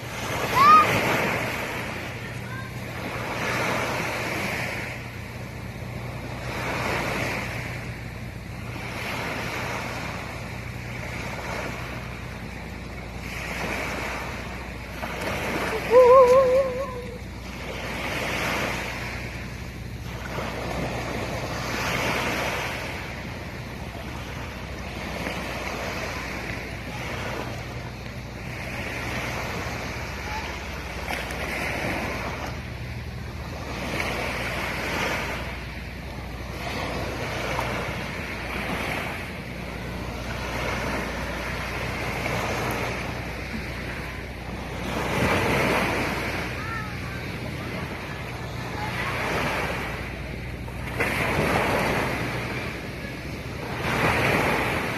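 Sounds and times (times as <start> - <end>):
sea waves washing: 0.0 - 54.9
steady low hum: 0.0 - 54.9.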